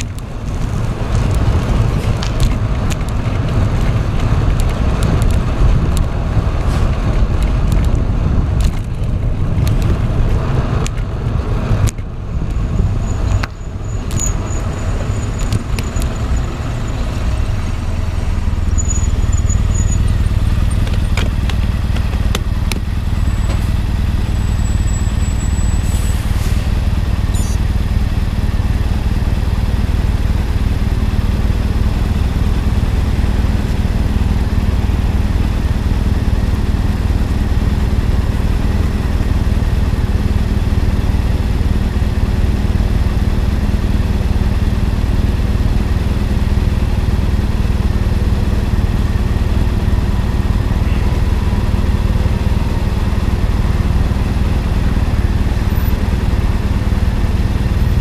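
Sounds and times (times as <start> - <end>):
engine idling rumble: 0.0 - 58.0.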